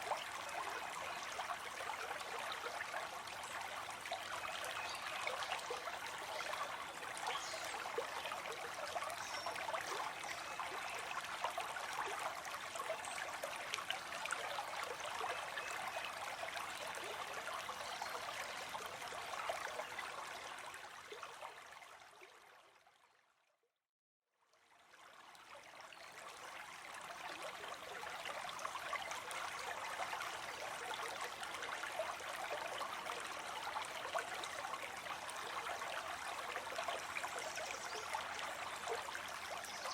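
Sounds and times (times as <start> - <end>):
stream trickling and babbling: 0.0 - 23.6, 24.4 - 39.9.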